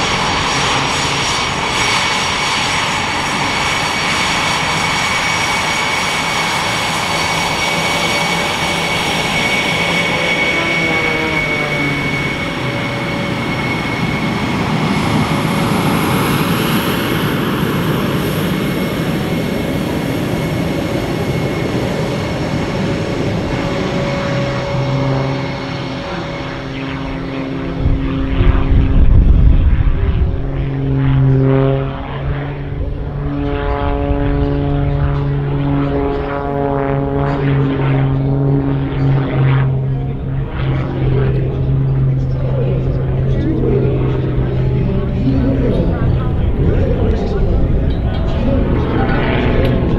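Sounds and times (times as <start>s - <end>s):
propeller plane engine drone: 0.0s - 49.9s.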